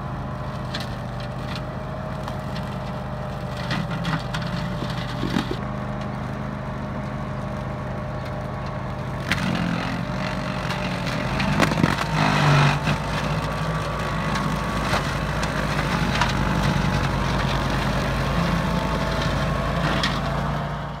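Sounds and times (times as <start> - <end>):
mower engine running: 0.0 - 21.0.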